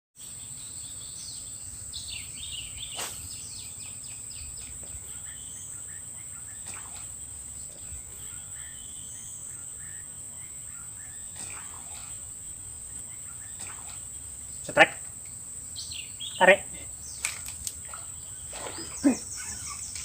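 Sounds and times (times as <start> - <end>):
bird chirping: 0.2 - 20.0
insects droning high pitch: 0.2 - 20.0.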